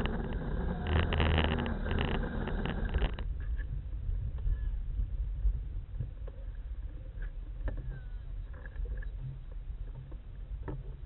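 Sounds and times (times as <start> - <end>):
off-road vehicle rumble: 0.0 - 11.0.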